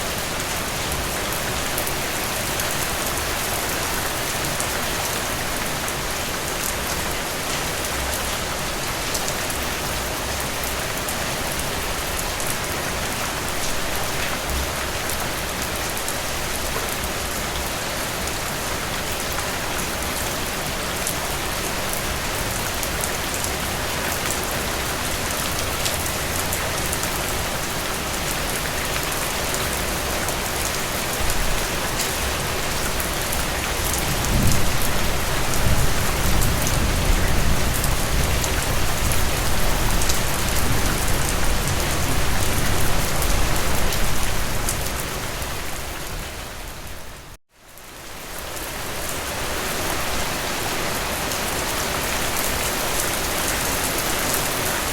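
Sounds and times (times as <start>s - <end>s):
rain falling through trees: 0.0s - 54.9s.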